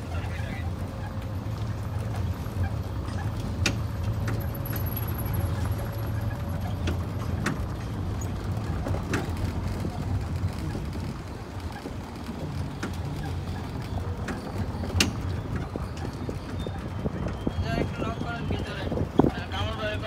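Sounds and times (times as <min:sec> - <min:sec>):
cart low hum: 0:00.0 - 0:20.0.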